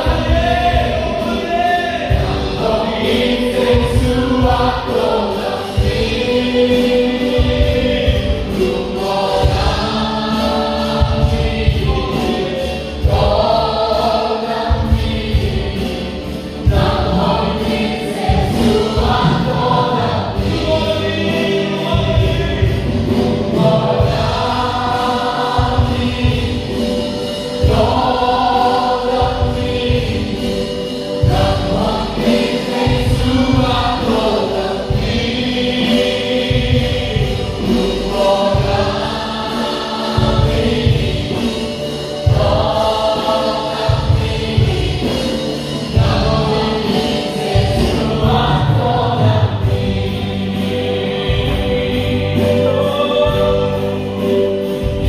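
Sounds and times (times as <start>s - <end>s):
group singing worship song: 0.0s - 55.0s.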